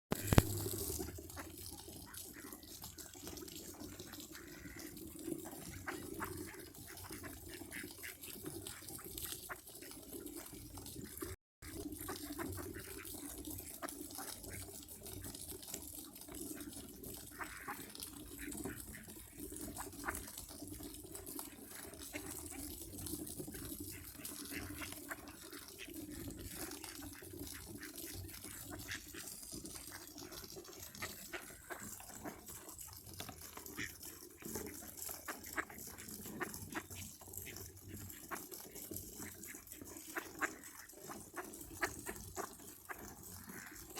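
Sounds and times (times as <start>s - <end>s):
running water with splashes: 0.1s - 43.9s.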